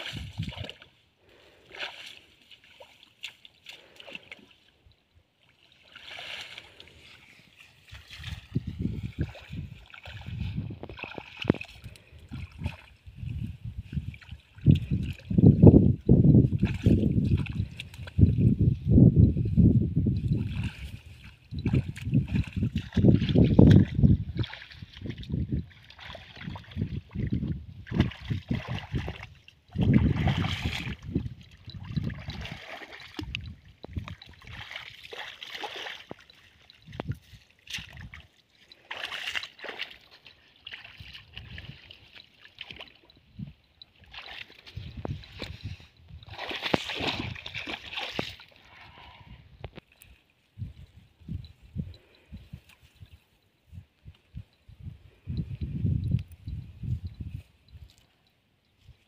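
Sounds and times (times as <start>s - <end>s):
muddy water sloshing and splashing: 0.0s - 19.1s, 20.0s - 54.9s.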